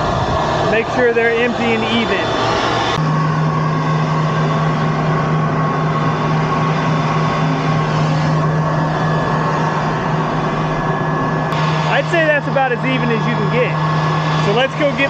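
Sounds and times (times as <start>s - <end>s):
tractor running: 0.0s - 15.0s.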